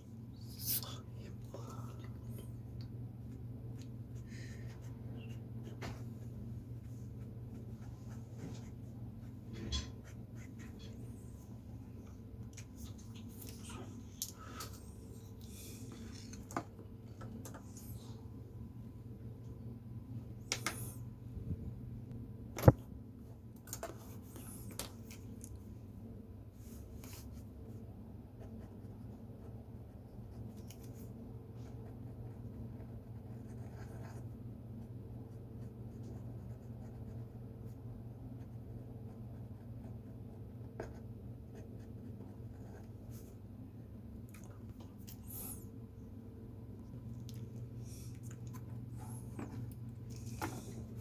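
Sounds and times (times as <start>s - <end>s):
low room hum: 0.0s - 51.0s.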